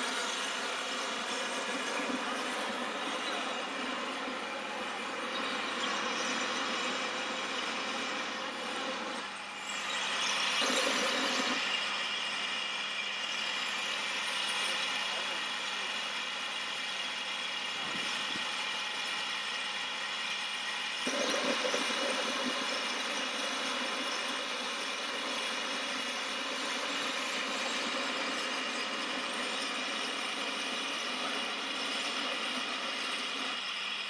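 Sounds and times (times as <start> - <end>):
low steam rush: 0.0 - 34.0
steam hissing: 0.0 - 34.0.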